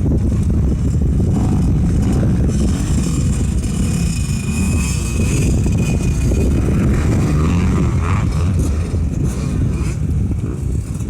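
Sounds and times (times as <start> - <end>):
motocross bike engine running: 0.0 - 11.0.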